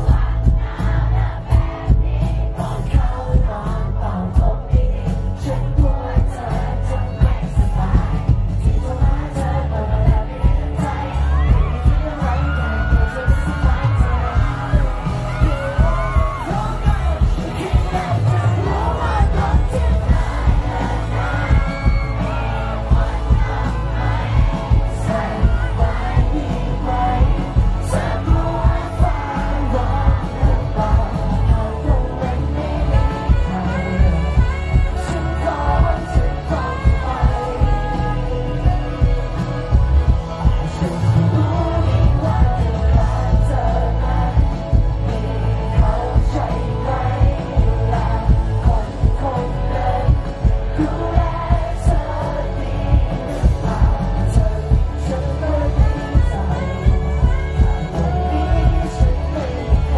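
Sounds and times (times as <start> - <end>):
heavy steady bass: 0.0 - 59.9
man singing into a microphone: 0.0 - 59.9
pop-rock band playing: 0.0 - 59.9
steady drum beat: 0.0 - 59.9.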